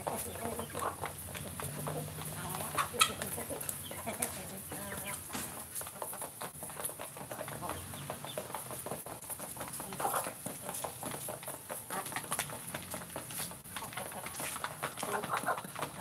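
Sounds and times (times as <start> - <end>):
chickens clucking: 0.0 - 16.0
chickens pecking in dirt: 0.0 - 16.0.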